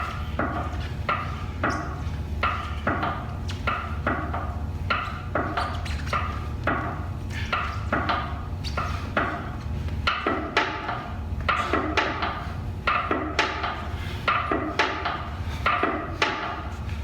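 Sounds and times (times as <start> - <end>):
sharp knocks: 0.0 - 16.7.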